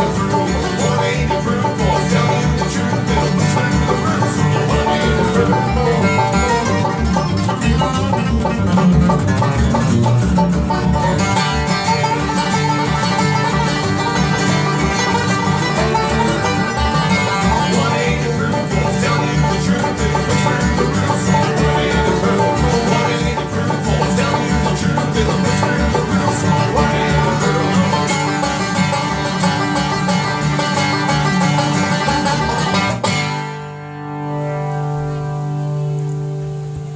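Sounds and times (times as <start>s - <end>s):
fast bluegrass music: 0.0s - 36.9s.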